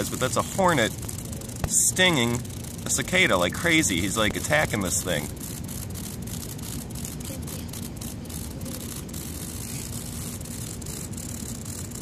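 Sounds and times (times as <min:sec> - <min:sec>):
cicada distress buzz: 0:00.0 - 0:12.0.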